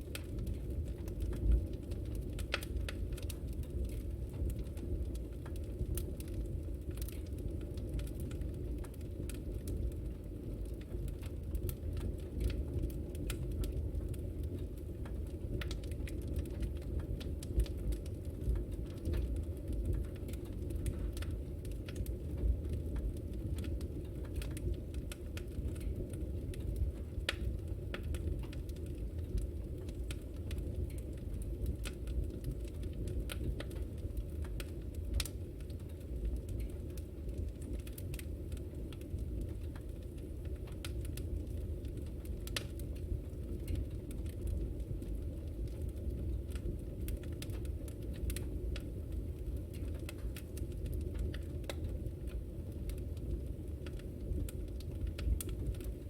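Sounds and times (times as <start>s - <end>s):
fire burning low rumble: 0.0s - 56.0s
fire crackling and popping: 0.0s - 56.0s.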